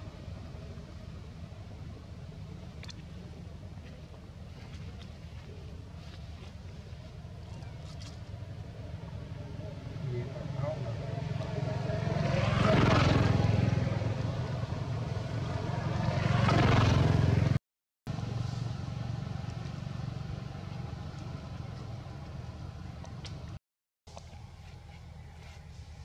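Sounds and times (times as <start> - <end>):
vehicles passing by: 0.0 - 23.6
low engine hum: 0.0 - 26.0.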